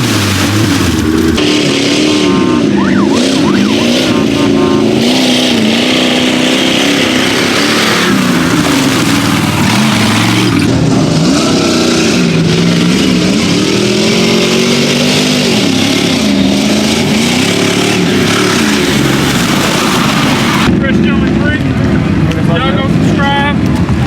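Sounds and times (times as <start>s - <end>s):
vehicle engine revving hard: 0.0s - 20.7s.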